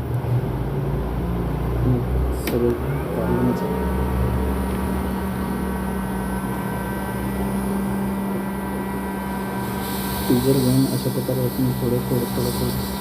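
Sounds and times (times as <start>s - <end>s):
hot-air blower humming and hissing: 0.0s - 13.0s.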